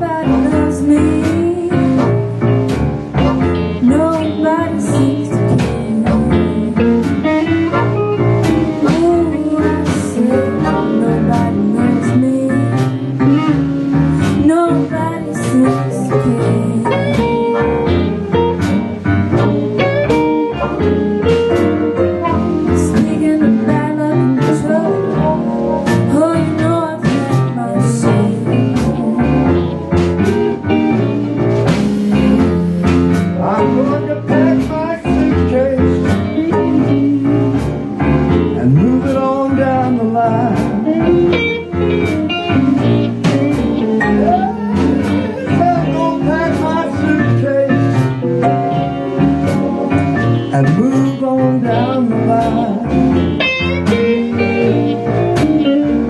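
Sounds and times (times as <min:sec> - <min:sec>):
woman singing: 0:00.0 - 0:02.3, 0:03.7 - 0:07.5, 0:08.6 - 0:18.5, 0:22.2 - 0:32.5, 0:33.4 - 0:37.8, 0:38.5 - 0:48.8, 0:50.4 - 0:55.0
live blues band playing: 0:00.0 - 0:56.0.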